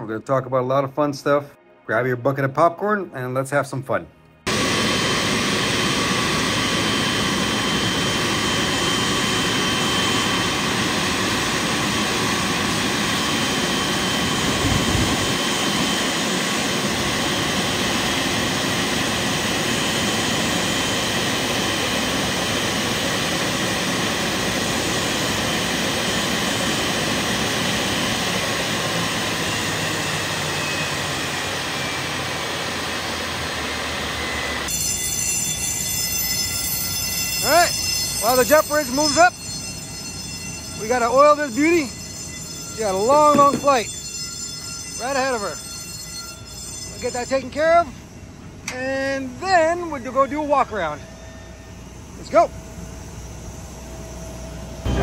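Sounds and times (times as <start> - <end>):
jet aircraft rushing and whining: 4.4 - 34.8, 35.6 - 55.0.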